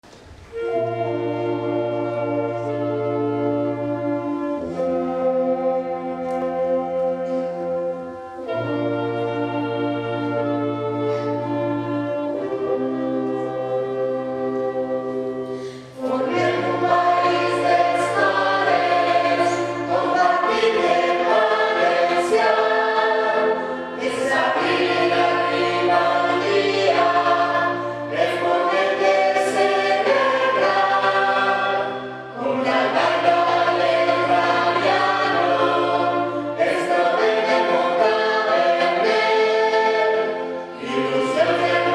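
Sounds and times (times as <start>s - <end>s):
choir singing: 0.0s - 41.9s
held instrumental notes: 0.0s - 41.9s.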